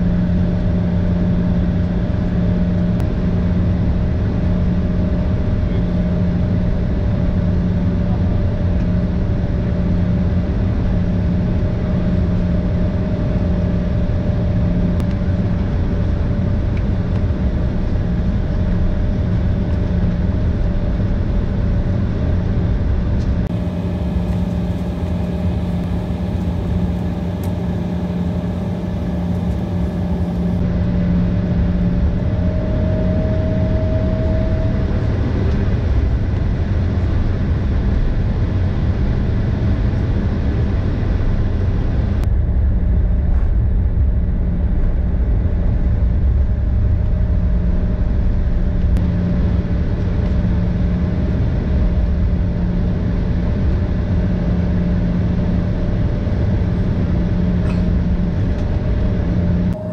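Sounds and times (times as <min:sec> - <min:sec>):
airliner cabin hum: 0:00.0 - 0:59.9
high steady whine: 0:00.0 - 0:59.9.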